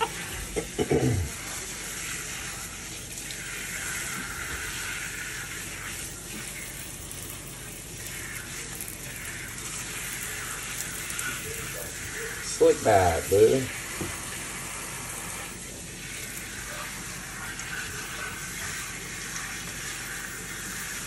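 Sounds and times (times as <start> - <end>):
faucet water running into sink: 0.0 - 21.0.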